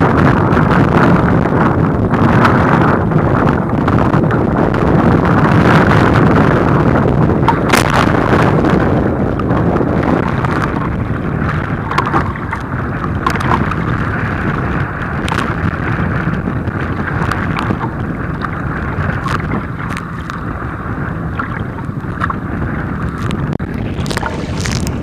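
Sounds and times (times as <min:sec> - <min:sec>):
water splashing in rough seas: 0:00.0 - 0:25.0
wind buffeting microphone: 0:00.0 - 0:25.0.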